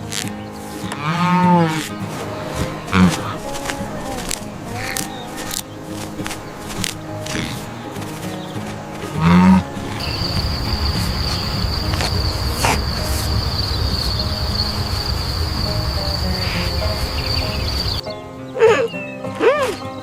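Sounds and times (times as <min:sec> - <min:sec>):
insect trill: 0:00.0 - 0:20.0.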